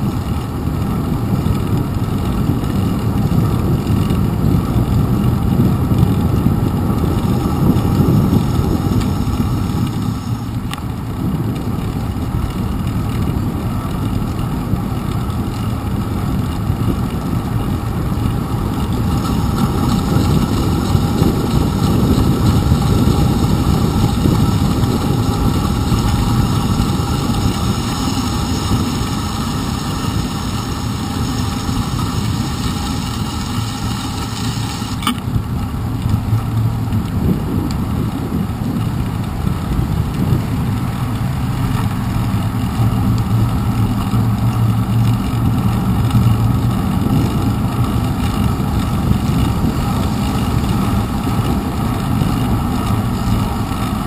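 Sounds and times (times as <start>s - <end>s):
bicycle tyres on wet pavement: 0.0s - 54.0s
wind noise: 0.0s - 54.0s.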